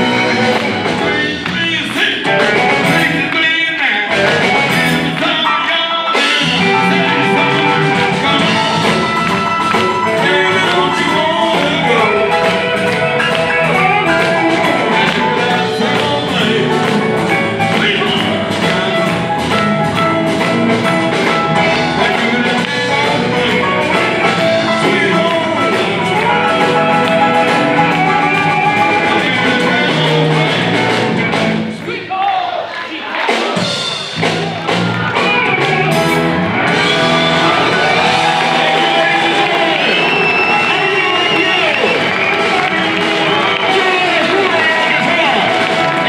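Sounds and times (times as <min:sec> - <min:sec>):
electric guitar: 0:00.0 - 0:31.8, 0:33.6 - 0:46.0
bass guitar: 0:00.0 - 0:31.9, 0:33.6 - 0:46.0
keyboard: 0:00.0 - 0:31.9, 0:33.4 - 0:46.0
drums: 0:00.0 - 0:46.0.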